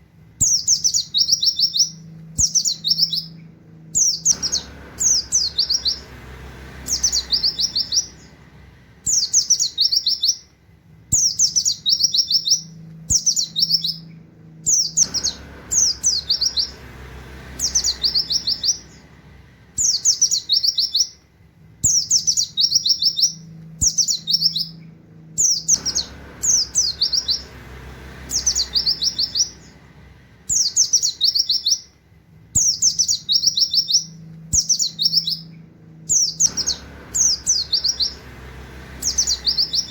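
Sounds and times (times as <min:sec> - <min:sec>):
bird singing high falling notes: 0:00.4 - 0:10.5, 0:11.2 - 0:21.2, 0:21.8 - 0:31.9, 0:32.6 - 0:39.9.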